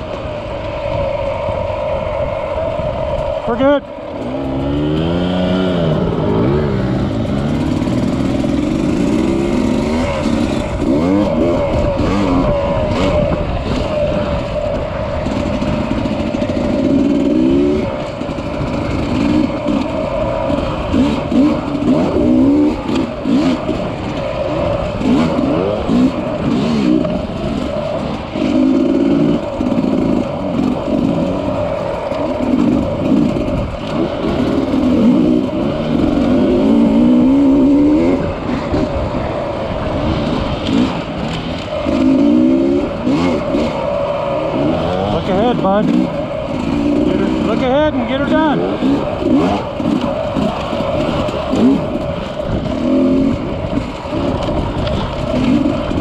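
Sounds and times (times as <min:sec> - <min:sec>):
dirt bike engine revving: 0:00.0 - 0:56.0
wind noise: 0:00.0 - 0:56.0.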